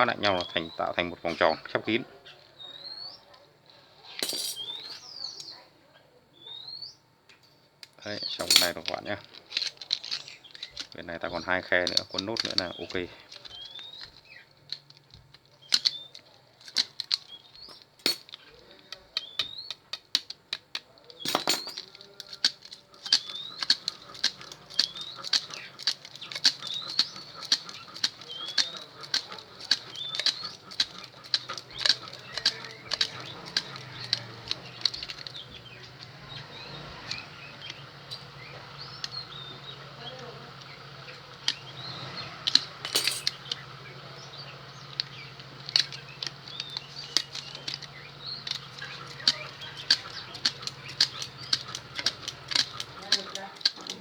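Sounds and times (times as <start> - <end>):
wire winding clicks and squeaks: 0.0 - 5.6, 7.3 - 54.0.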